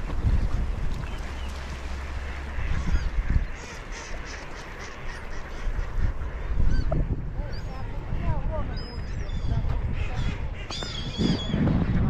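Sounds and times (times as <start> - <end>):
gulls calling: 0.0 - 12.0
wind rumble on microphone: 0.0 - 12.0
ducks quacking: 0.3 - 12.0.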